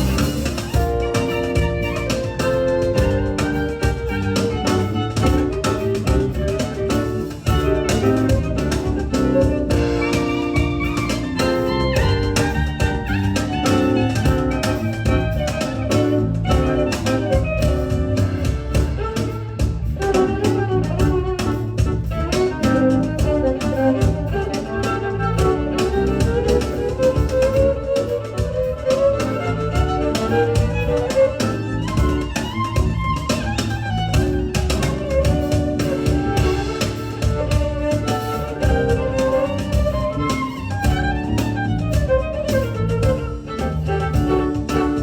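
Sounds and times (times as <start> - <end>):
bowed string melody: 0.0 - 45.0
percussion: 0.0 - 45.0.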